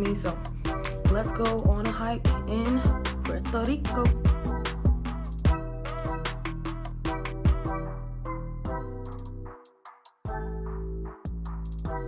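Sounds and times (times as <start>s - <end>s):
electronic music with bass: 0.0s - 9.6s, 10.3s - 12.0s.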